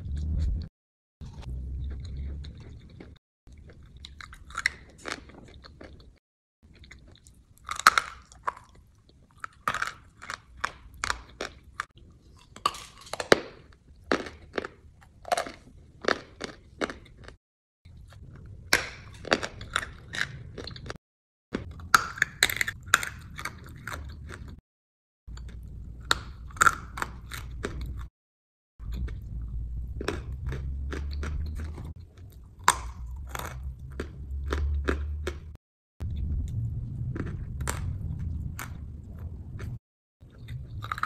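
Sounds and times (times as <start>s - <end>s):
person crunching brittle food: 1.2s - 21.0s, 21.6s - 24.6s, 25.3s - 28.1s, 28.8s - 41.0s.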